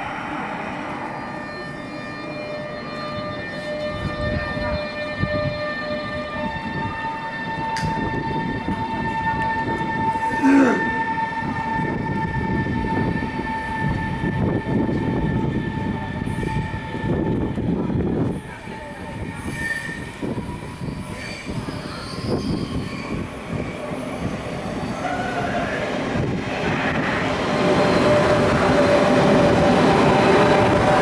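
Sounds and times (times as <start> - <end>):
train high whine: 0.0 - 31.0
train rolling rumble: 0.0 - 31.0.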